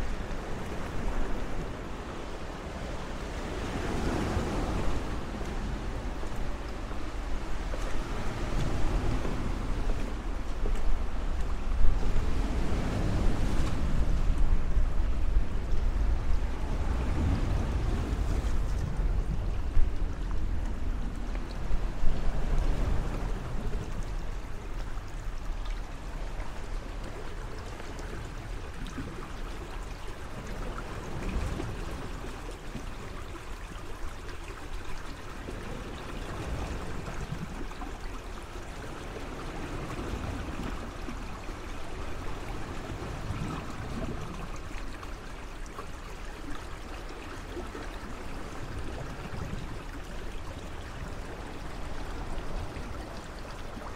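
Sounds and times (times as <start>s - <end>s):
water washing and trickling: 0.0s - 53.9s.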